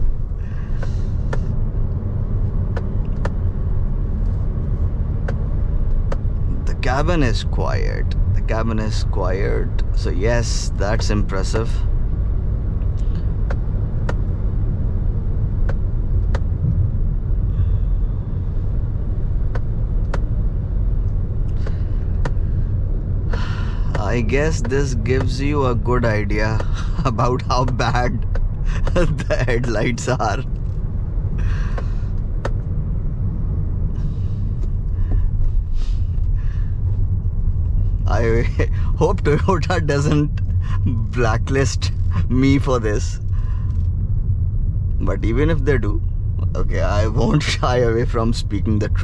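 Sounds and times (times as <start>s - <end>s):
road and tyre rumble in car: 0.0s - 49.0s.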